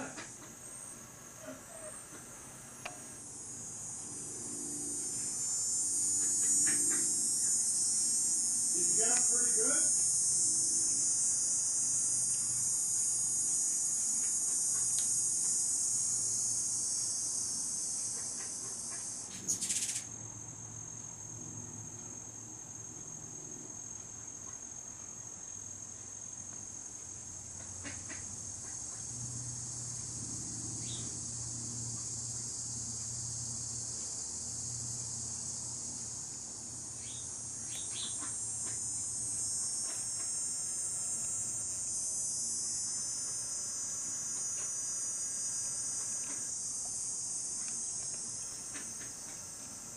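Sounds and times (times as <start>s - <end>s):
insect chorus buzzing: 0.0s - 49.9s.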